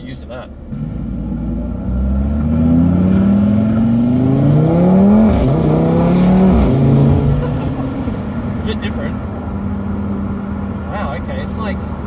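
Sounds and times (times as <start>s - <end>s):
car engine accelerating: 0.5s - 12.0s.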